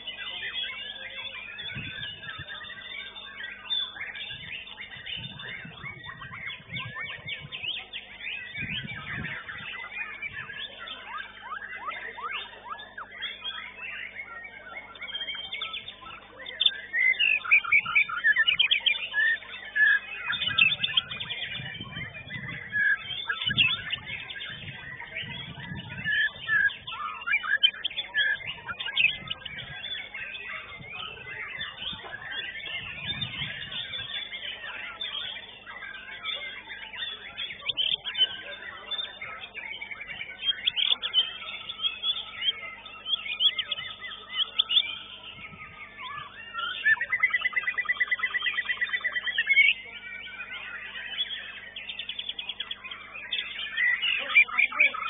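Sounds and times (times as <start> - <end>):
songbirds whistling and trilling: 0.0 - 55.0.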